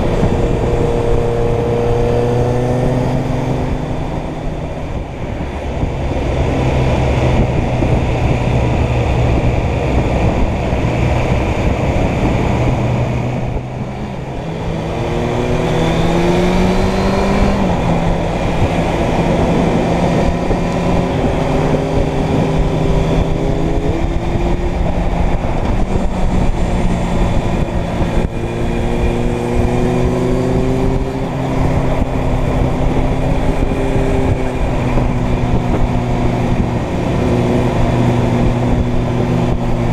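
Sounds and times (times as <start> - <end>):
motorcycle engine: 0.0 - 39.9
wind on microphone: 0.0 - 39.9.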